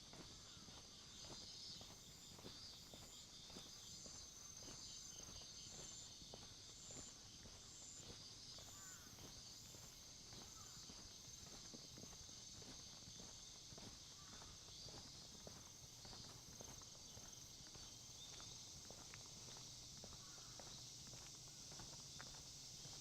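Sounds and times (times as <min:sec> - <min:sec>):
quiet footsteps walking: 0:00.0 - 0:23.0
high-pitched insect chirping: 0:00.1 - 0:23.0.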